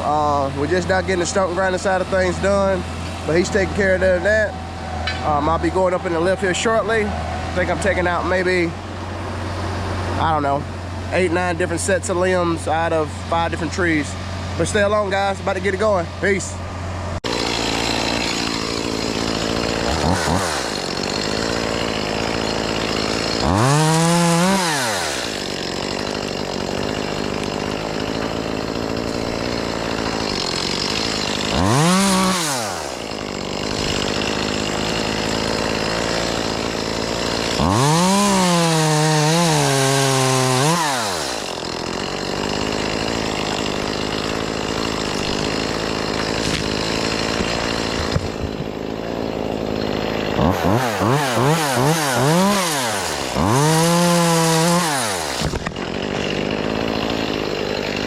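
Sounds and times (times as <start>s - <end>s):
engine running steadily: 0.0s - 38.4s, 40.5s - 58.0s
chainsaw revving: 0.0s - 58.0s.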